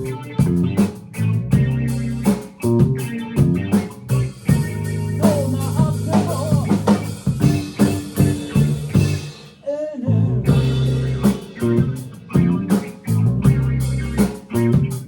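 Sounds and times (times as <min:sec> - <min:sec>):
rock band playing: 0:00.0 - 0:09.6, 0:10.5 - 0:15.0.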